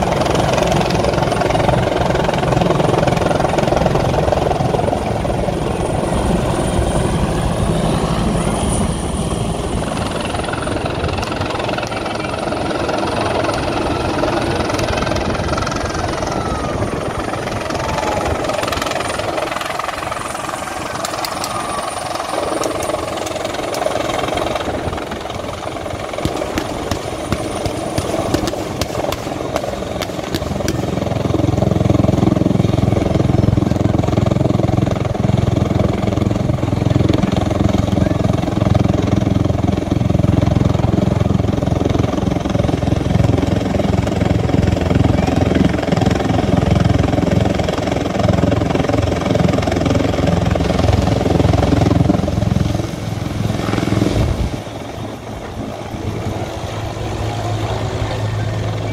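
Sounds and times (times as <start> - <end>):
helicopter rotor: 0.0 - 58.9.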